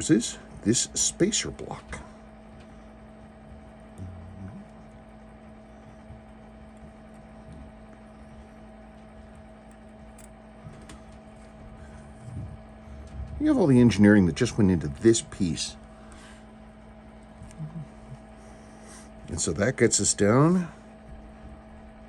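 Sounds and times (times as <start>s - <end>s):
low electrical hum and hiss: 0.0s - 22.0s.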